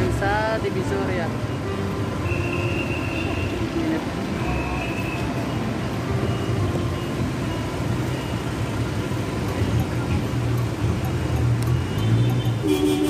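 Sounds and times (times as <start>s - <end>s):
road noise: 0.0s - 13.0s
vehicle engines running: 0.0s - 13.0s.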